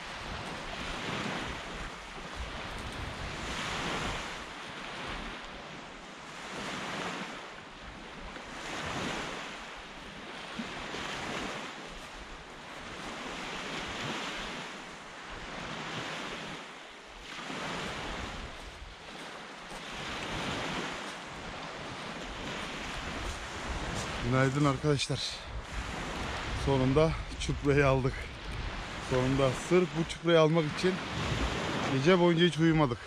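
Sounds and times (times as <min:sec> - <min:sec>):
small waves breaking on beach: 0:00.0 - 0:33.0.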